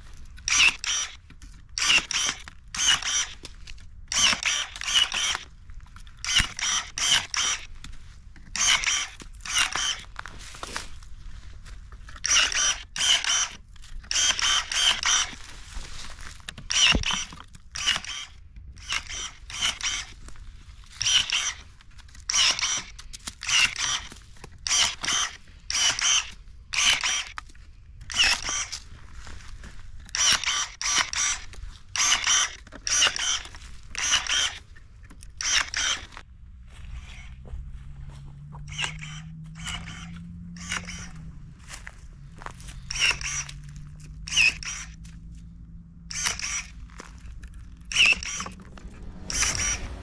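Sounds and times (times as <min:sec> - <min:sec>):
electric pruning shears whining: 0:00.0 - 0:11.0, 0:12.1 - 0:29.4, 0:30.0 - 0:50.0.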